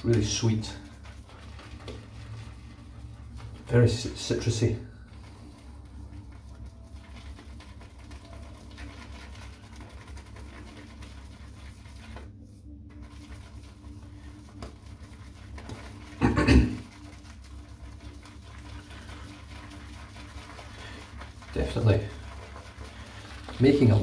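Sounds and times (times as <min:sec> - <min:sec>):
shaving brush swishing in bowl: 0:00.0 - 0:24.0.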